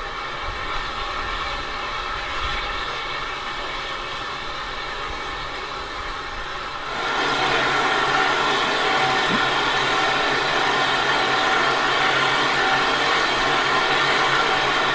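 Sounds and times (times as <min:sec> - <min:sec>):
steam locomotive hissing: 0:00.0 - 0:14.9.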